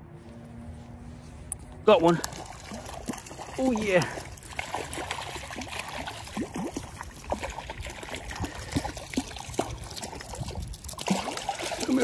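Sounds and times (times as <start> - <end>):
flowing water: 2.0 - 12.0
fish splashing at the surface: 2.2 - 12.0.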